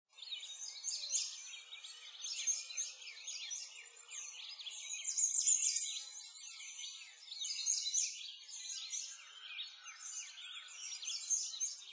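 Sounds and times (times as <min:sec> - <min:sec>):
small birds chirping: 0:00.1 - 0:11.9.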